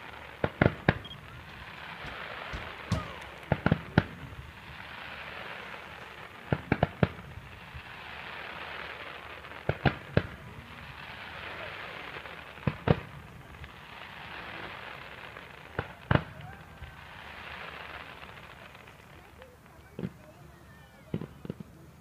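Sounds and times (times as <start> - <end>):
fireworks bangs: 0.0 - 19.0
fireworks hiss: 0.0 - 19.3.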